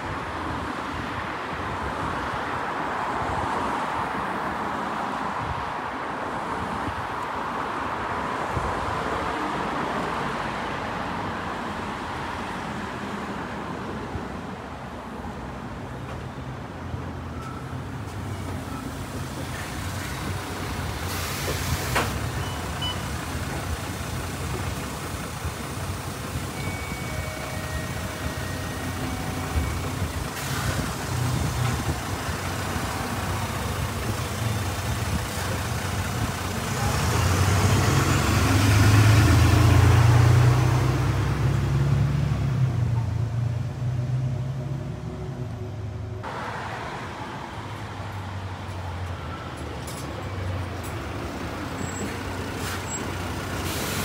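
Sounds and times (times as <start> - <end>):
bus engine rumble: 0.0 - 54.0
road noise: 0.0 - 54.0.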